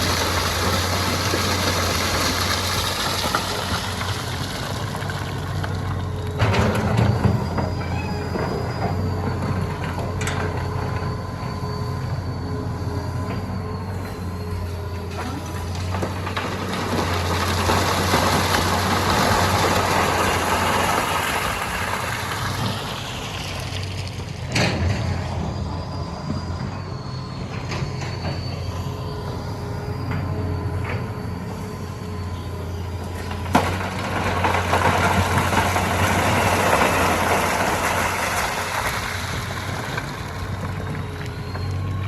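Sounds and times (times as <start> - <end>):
excavator diesel engine whining: 0.0 - 42.0.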